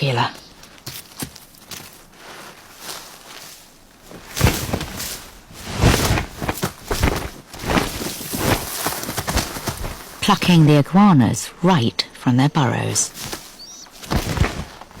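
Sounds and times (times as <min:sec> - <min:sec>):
scuffling and scraping: 0:00.0 - 0:10.8, 0:12.5 - 0:15.0.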